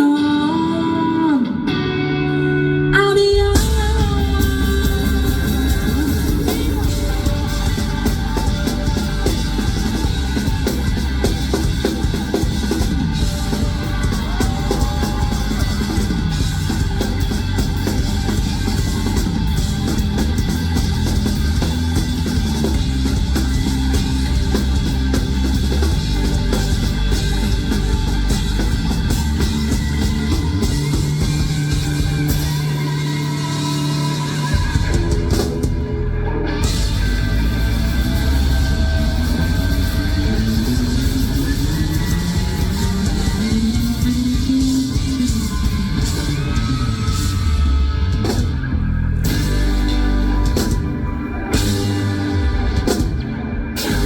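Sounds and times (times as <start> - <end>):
heavy bass and guitars: 0.0 - 54.0
driving drum kit: 3.4 - 54.0.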